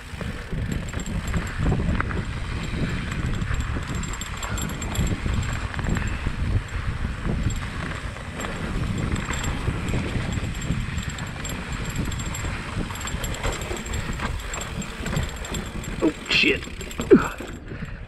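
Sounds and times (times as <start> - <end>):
bike clattering on rocky trail: 0.0 - 18.0
wind buffeting microphone: 0.0 - 18.0.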